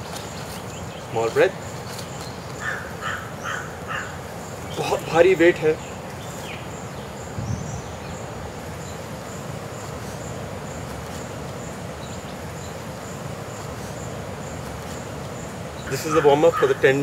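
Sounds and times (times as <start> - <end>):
background hiss: 0.0 - 17.0
insects chirping: 0.0 - 17.0.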